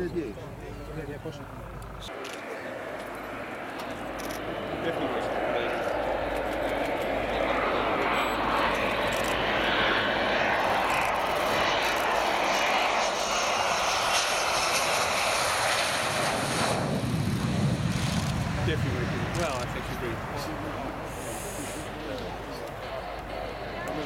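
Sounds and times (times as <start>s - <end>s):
jet aircraft landing noise: 1.3s - 24.0s.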